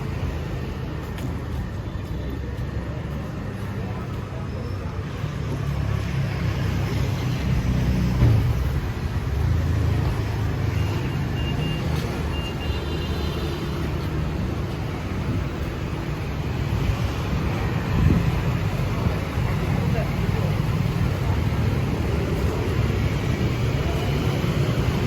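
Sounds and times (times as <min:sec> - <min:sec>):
traffic rumble of engines and tyres: 0:00.0 - 0:25.0.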